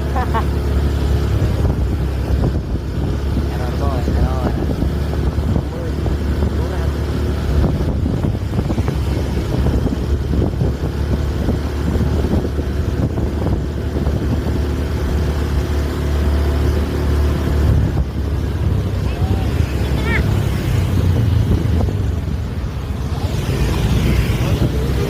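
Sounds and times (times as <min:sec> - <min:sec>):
bus engine rumbling: 0:00.0 - 0:25.0
road noise: 0:00.0 - 0:25.0.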